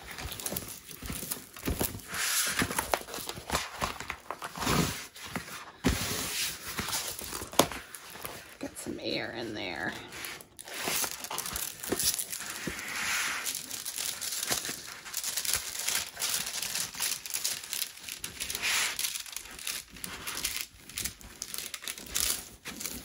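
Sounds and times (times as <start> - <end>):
plastic film crinkling: 0.0 - 23.0.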